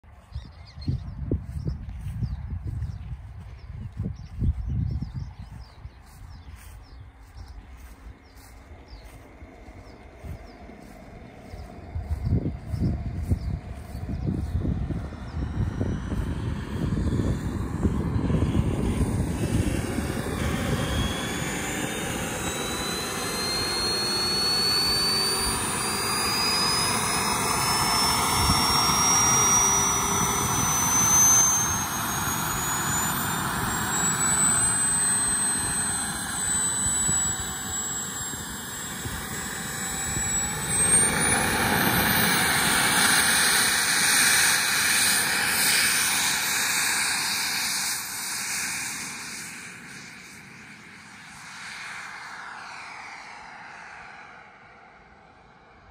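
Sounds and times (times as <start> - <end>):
jet turbine whine: 0.0 - 55.9
turbine rushing roar: 0.1 - 55.9.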